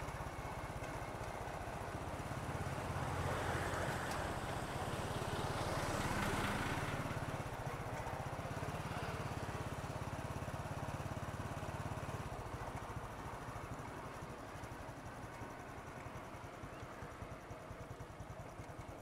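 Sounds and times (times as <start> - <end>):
wind and road noise: 0.0 - 15.4
small motorbike engine running: 0.0 - 19.0.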